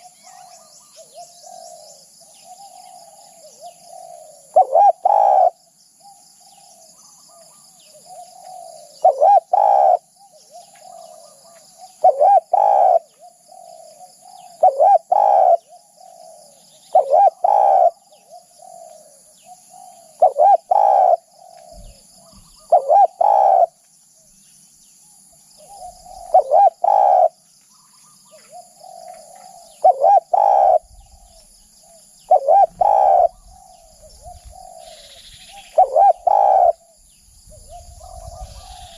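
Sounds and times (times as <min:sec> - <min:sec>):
dove cooing: 0:00.0 - 0:23.8, 0:25.6 - 0:38.9.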